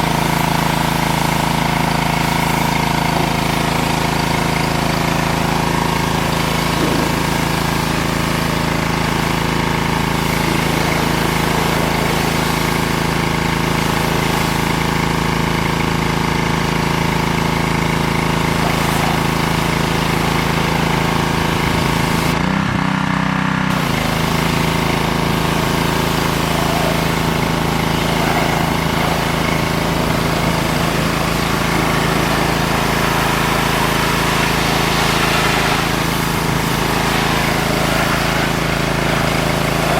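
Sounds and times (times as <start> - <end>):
water jet hissing: 0.0 - 22.4, 23.7 - 39.9
pressure washer engine humming: 0.0 - 39.9.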